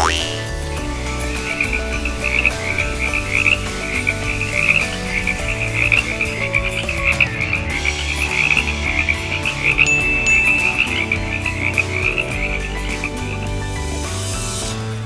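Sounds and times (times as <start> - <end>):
frogs croaking: 0.0 - 14.3
low sustained tones: 0.0 - 15.0.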